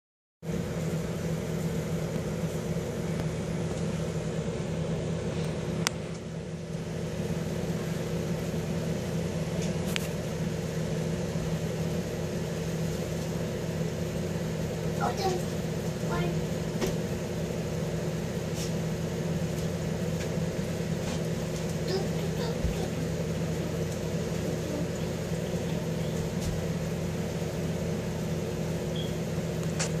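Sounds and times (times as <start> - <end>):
aquarium equipment humming: 0.4 - 30.0.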